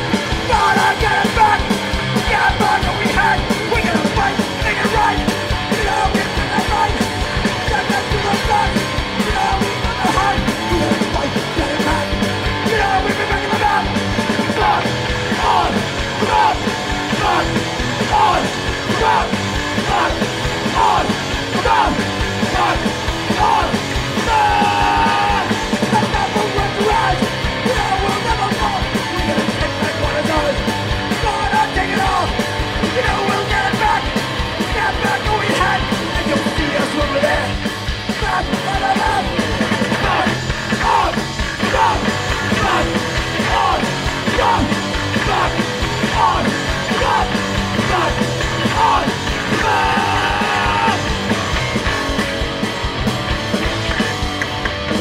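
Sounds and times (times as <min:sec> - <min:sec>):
shouted vocals: 0:00.0 - 0:51.6
fast dense drumming: 0:00.0 - 0:55.0
hardcore punk band playing live: 0:00.0 - 0:55.0.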